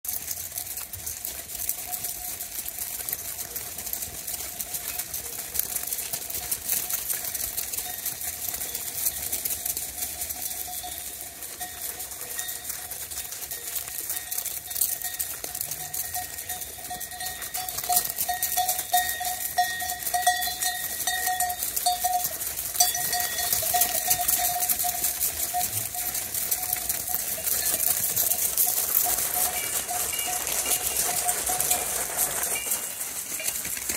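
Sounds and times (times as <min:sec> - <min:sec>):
sheep bells clinking: 0:00.0 - 0:33.9.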